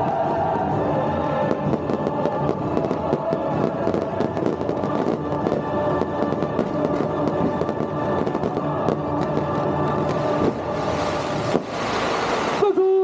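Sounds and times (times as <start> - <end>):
music with steady notes: 0.0 - 11.6
fireworks bangs and crackles: 0.0 - 12.7.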